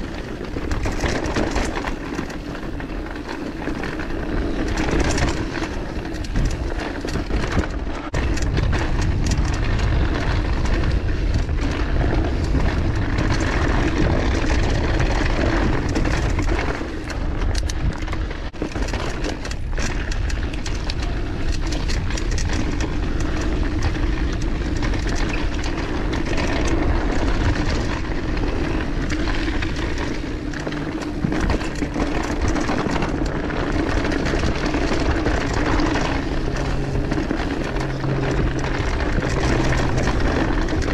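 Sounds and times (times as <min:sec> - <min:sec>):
bike rattling and clicking: 0:00.0 - 0:40.9
tyre noise on dirt: 0:00.0 - 0:40.9
wind on microphone: 0:04.3 - 0:18.6, 0:19.6 - 0:40.9.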